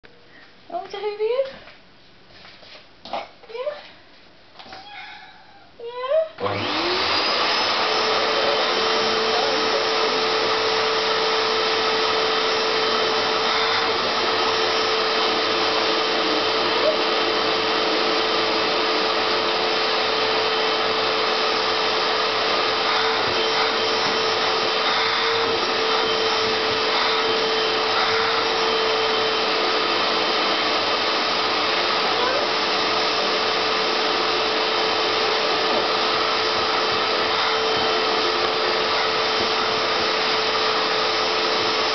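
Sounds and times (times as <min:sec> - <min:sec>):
vacuum cleaner running: 0:06.4 - 0:41.9.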